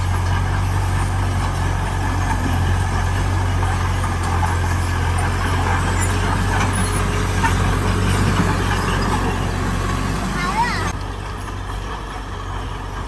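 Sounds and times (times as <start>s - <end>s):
diesel engine low drone: 0.0s - 13.0s.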